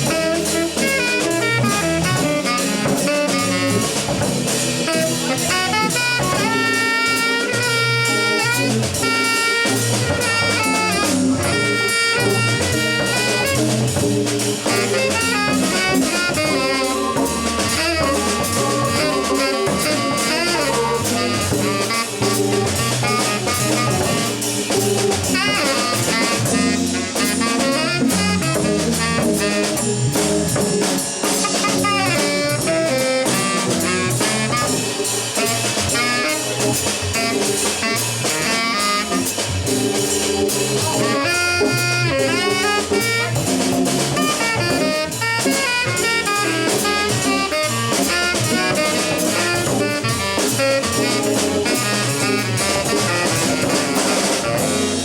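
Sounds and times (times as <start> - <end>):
drum kit cymbal beat: 0.0 - 55.0
lead instrument melody: 0.0 - 55.0.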